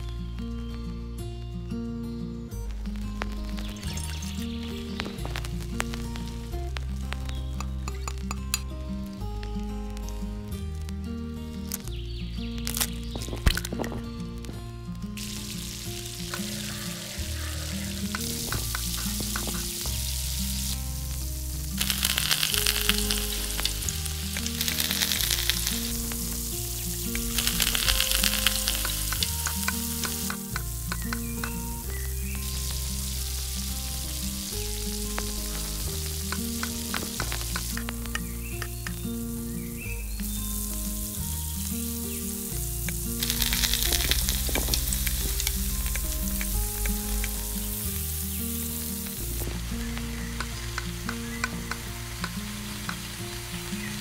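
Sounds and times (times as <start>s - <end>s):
background music bass line: 0.0s - 54.0s
food sizzling in hot oil: 2.7s - 12.0s, 14.4s - 54.0s.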